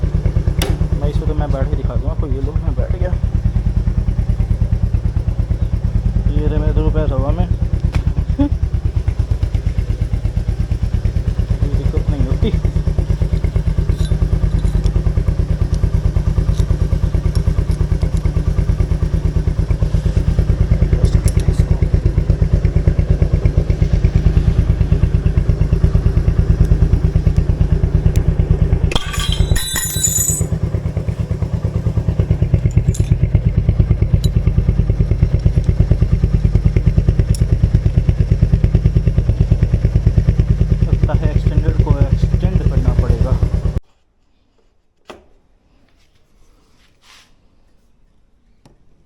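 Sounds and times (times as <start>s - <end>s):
motorcycle engine idling: 0.0s - 43.8s.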